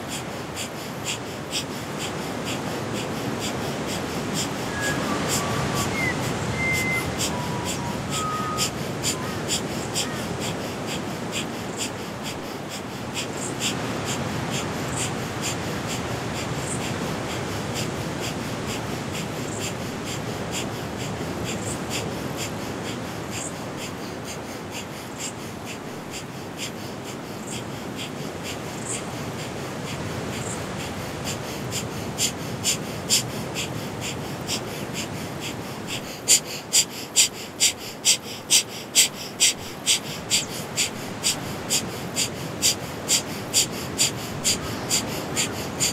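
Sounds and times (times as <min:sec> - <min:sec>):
rapid forceful nasal exhales: 0:00.0 - 0:45.9.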